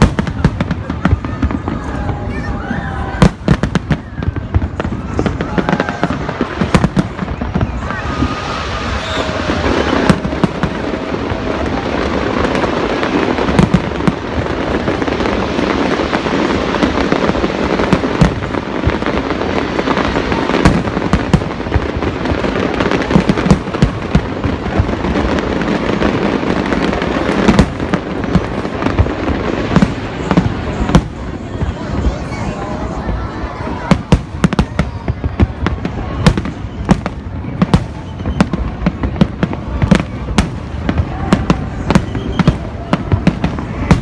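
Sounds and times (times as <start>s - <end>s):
fireworks bangs: 0.0s - 44.0s
fireworks crackling rumble: 0.0s - 44.0s.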